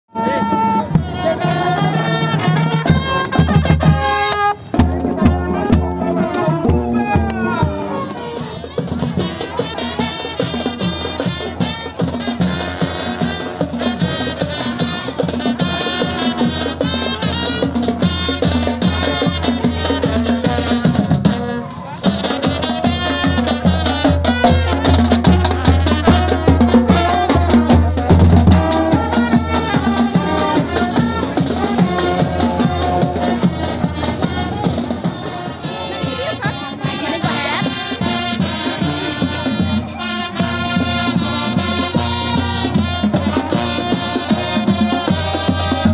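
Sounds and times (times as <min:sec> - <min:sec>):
brass melody: 0:00.1 - 0:45.9
marching drums: 0:00.2 - 0:45.9.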